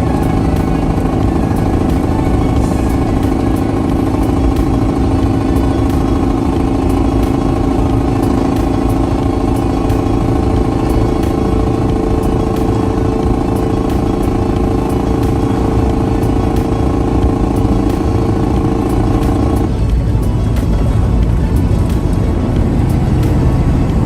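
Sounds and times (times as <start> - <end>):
vehicle engine and road drone: 0.0 - 24.0.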